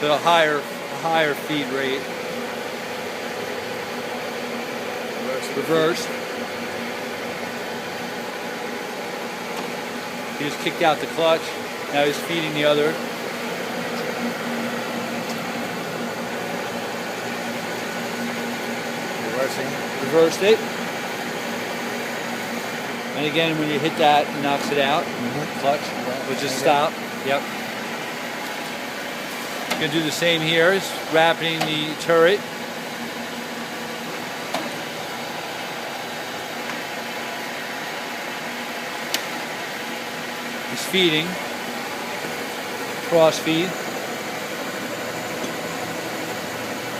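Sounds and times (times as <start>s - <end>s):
lathe humming and whirring: 0.0s - 46.9s.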